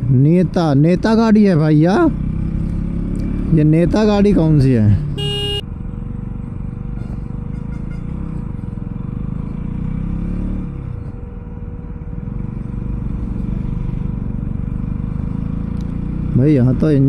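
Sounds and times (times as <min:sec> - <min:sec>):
motorcycle engine labouring uphill: 0:00.0 - 0:17.0.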